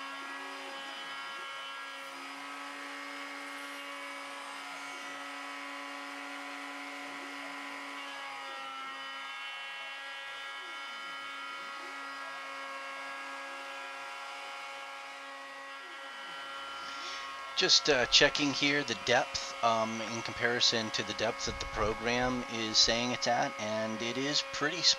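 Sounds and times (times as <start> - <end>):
cnc router whining: 0.0 - 24.9.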